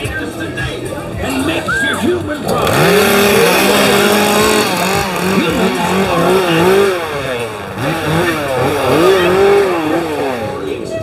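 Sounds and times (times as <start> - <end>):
small engine revving: 1.3 - 11.0.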